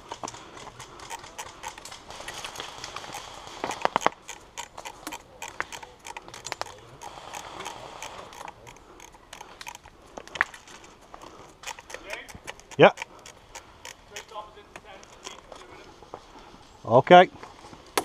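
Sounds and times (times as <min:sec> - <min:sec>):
footsteps on dirt path: 0:00.0 - 0:18.0.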